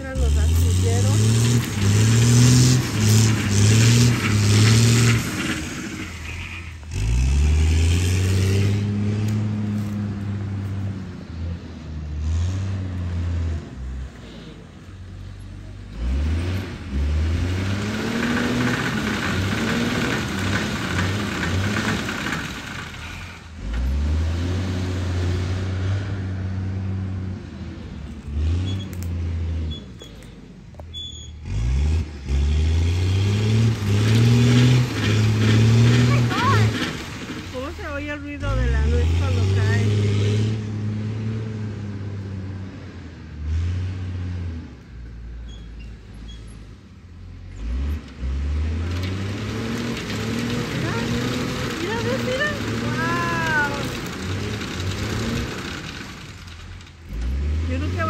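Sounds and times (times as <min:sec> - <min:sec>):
harvesting machine engine revving: 0:00.0 - 0:58.0.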